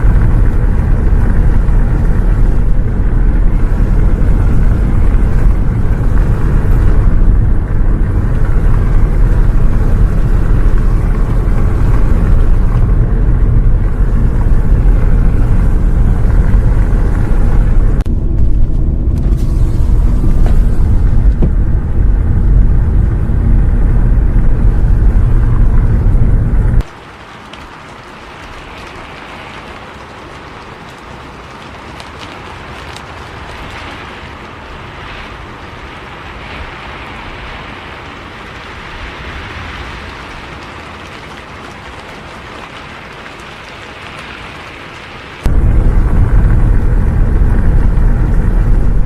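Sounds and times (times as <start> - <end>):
bus engine and road rumble: 0.0 - 27.0, 27.7 - 49.0.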